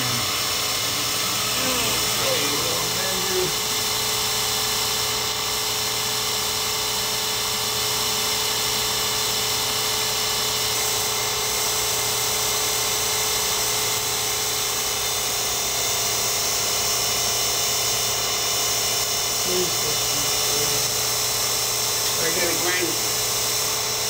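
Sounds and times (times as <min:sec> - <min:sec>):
grinder spindle whine: 0:00.0 - 0:24.0.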